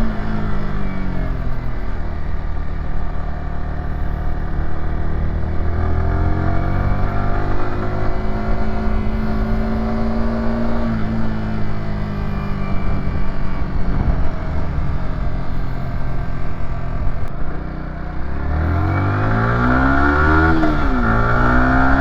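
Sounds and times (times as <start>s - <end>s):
motorcycle engine pulling uphill: 0.0s - 22.0s.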